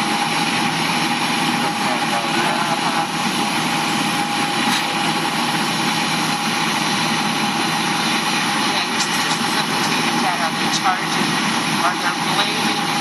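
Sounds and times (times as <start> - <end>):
constant high whine: 0.0 - 13.0
truck engine idling: 0.0 - 13.0.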